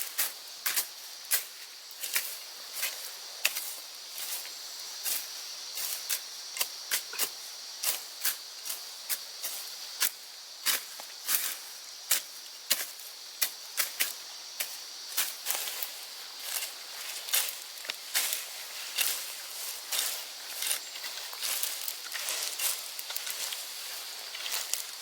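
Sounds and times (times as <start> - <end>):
high insect buzz: 0.0 - 25.0.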